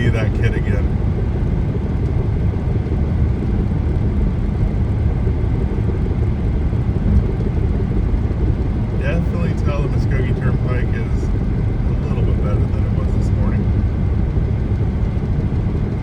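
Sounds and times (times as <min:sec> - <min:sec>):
car road and tyre noise: 0:00.0 - 0:16.0.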